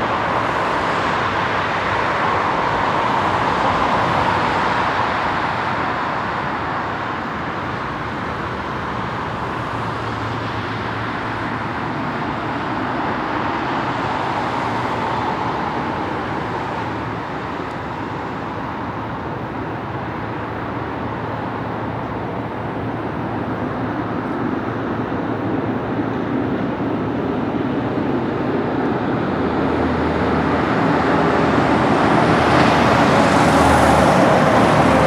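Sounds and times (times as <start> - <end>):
rushing jet engine noise: 0.0 - 35.0.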